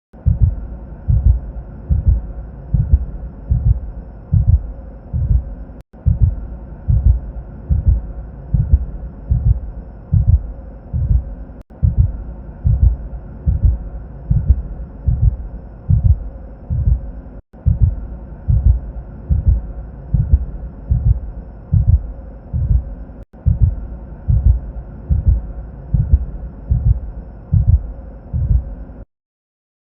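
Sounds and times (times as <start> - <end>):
heartbeat thumps: 0.2 - 28.8
faint steady drone: 0.2 - 29.0.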